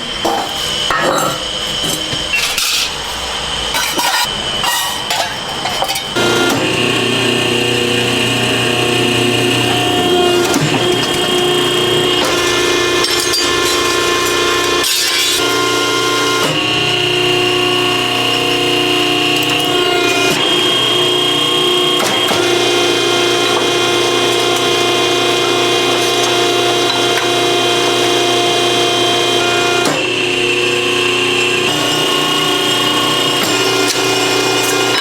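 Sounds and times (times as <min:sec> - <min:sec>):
power tool whining: 0:06.1 - 0:35.0.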